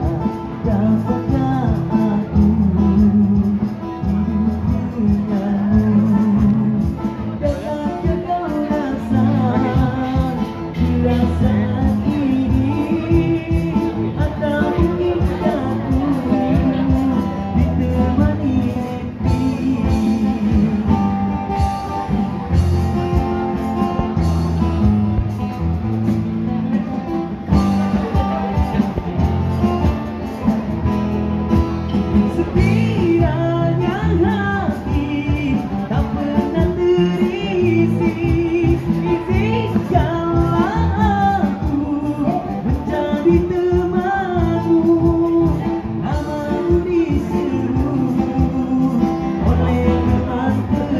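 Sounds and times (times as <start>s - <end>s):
man singing: 0.0s - 24.3s, 31.9s - 50.9s
drums: 0.0s - 50.9s
keyboard: 0.0s - 50.9s
live band music: 0.0s - 50.9s
strummed guitar: 0.0s - 50.9s.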